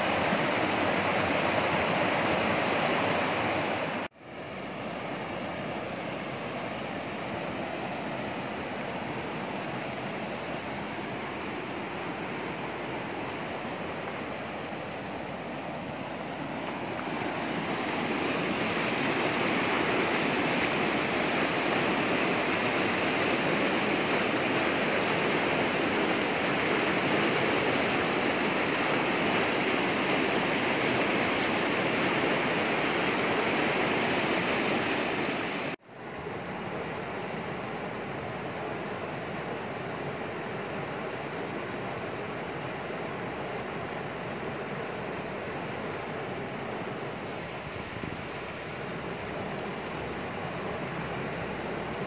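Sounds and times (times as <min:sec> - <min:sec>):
rushing water: 0:00.0 - 0:52.0.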